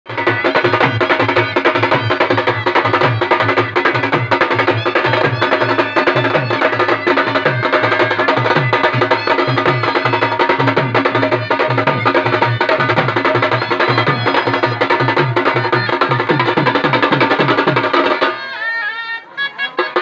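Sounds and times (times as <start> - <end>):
barrel drums beating fast rhythm: 0.1 - 18.4
trumpet melody: 0.1 - 20.0.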